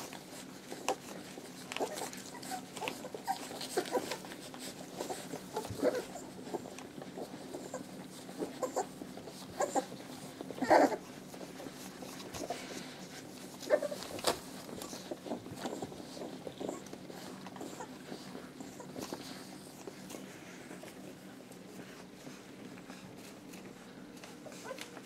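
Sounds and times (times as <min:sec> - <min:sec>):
puppies squeaking and suckling: 0:00.0 - 0:25.0.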